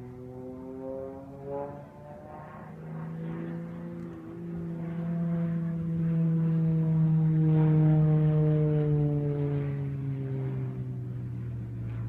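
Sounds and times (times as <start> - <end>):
airplane engine drone overhead: 0.0 - 12.0.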